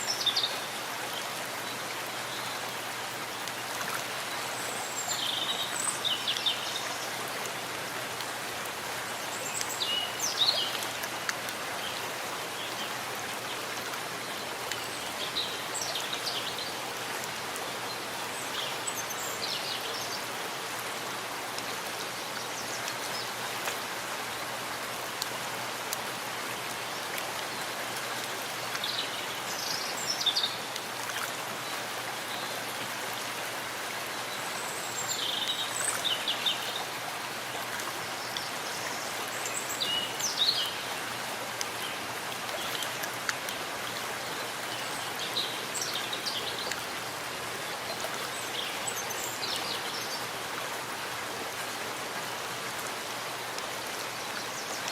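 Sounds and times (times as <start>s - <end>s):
rain falling in forest: 0.0s - 54.9s.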